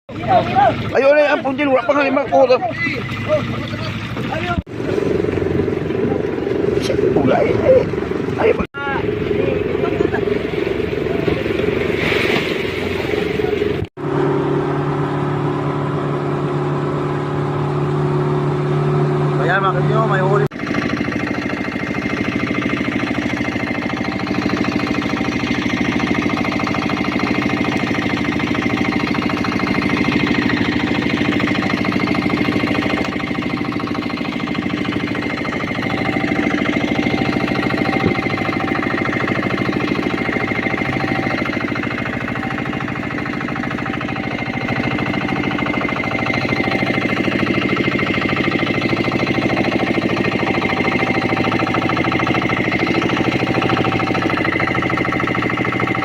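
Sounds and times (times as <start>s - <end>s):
boat engine knocking: 0.1s - 56.0s.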